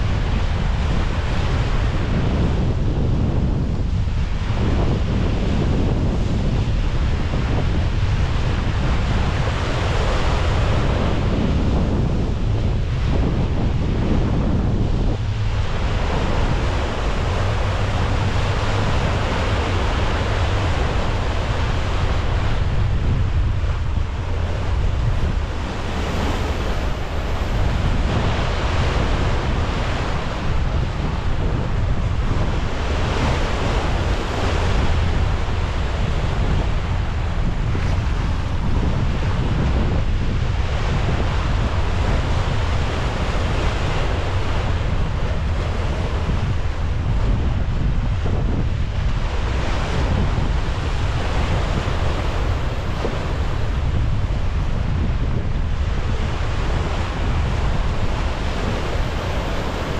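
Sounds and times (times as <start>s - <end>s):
sea water rushing around bow: 0.0s - 59.9s
wind buffeting microphone: 0.0s - 59.9s.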